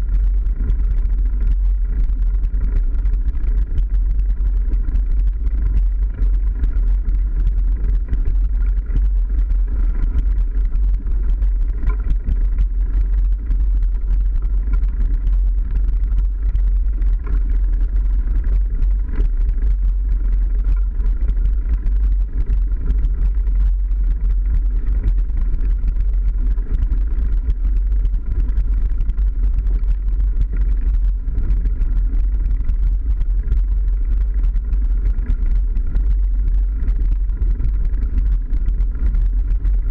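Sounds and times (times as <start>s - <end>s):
bike tyres rumbling on dirt: 0.0s - 39.9s.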